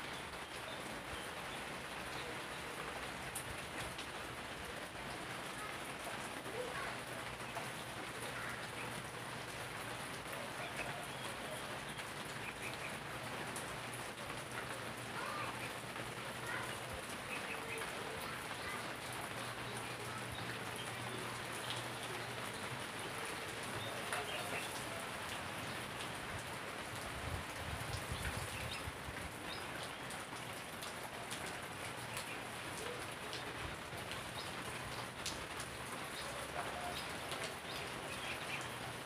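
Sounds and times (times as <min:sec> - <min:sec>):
rain falling on leaves: 0:00.0 - 0:39.0.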